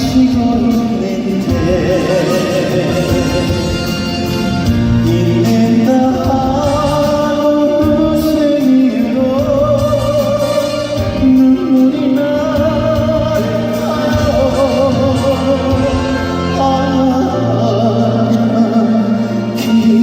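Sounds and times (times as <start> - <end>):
band accompaniment: 0.0 - 20.0
man singing with vibrato: 0.0 - 20.0.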